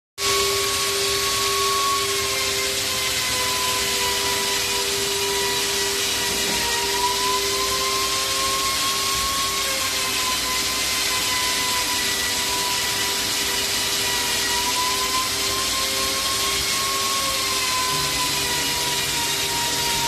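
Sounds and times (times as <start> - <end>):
cnc router spindle whine: 0.2 - 20.0.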